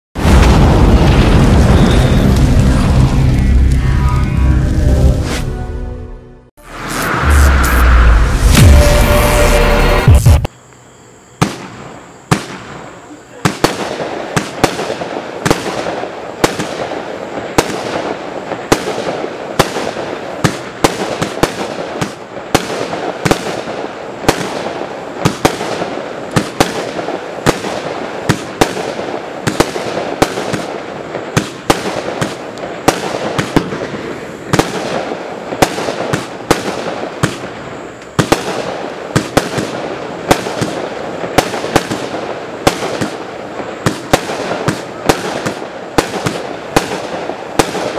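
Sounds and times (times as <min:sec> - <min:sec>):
fireworks launching and bursting: 0:00.2 - 0:05.6, 0:06.6 - 0:10.5, 0:11.4 - 0:47.9.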